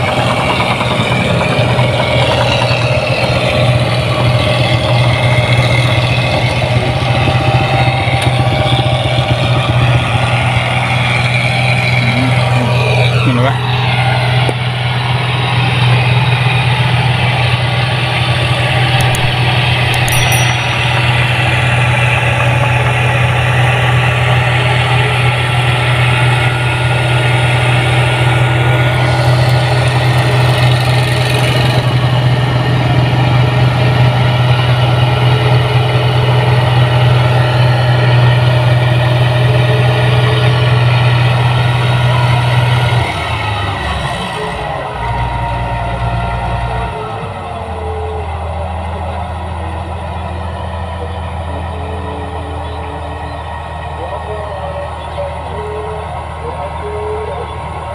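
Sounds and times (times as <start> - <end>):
combine harvester engine hum: 0.0 - 57.9.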